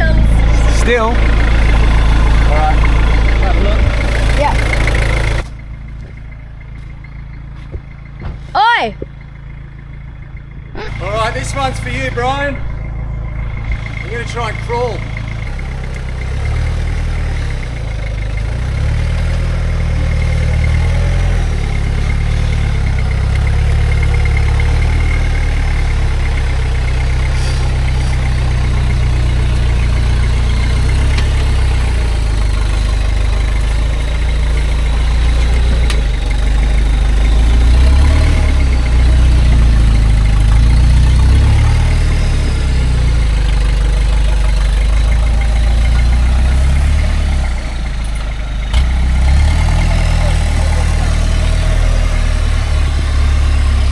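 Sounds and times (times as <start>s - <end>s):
diesel engine rumbling at low revs: 0.0s - 53.9s.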